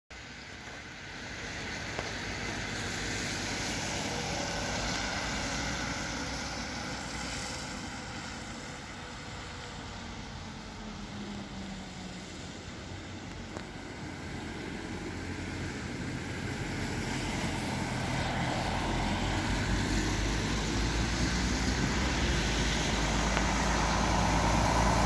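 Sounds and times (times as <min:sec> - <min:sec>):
tyre hiss on wet road: 0:00.2 - 0:25.0
van engine: 0:00.3 - 0:25.0.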